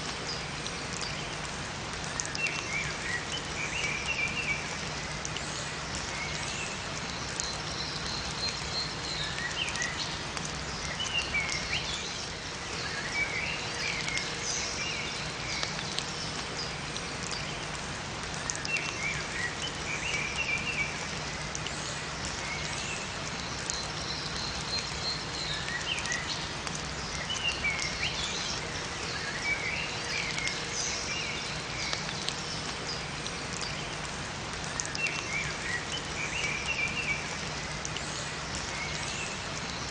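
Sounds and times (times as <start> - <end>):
steady rain: 0.0 - 39.9
water dripping: 0.0 - 39.9
songbirds chirping: 0.1 - 39.9.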